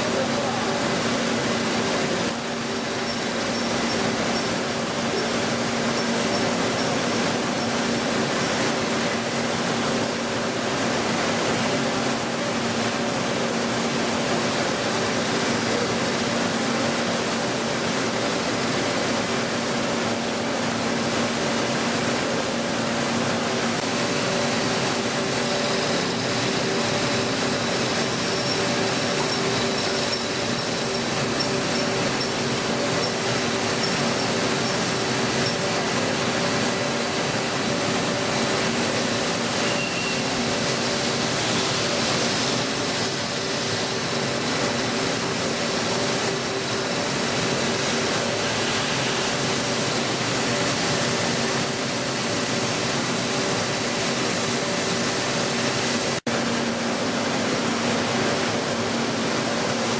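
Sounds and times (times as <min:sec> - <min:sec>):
machine tool whirring: 0:00.0 - 0:16.5, 0:17.1 - 0:56.2.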